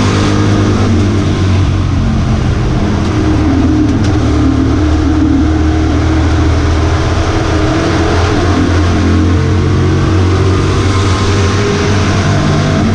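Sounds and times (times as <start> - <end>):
race truck engine running: 0.0 - 12.9
road and wind hiss: 0.0 - 12.9.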